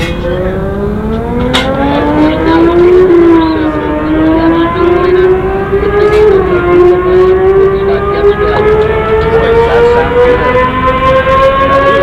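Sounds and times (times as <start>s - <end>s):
race car engine at full throttle: 0.0s - 12.0s.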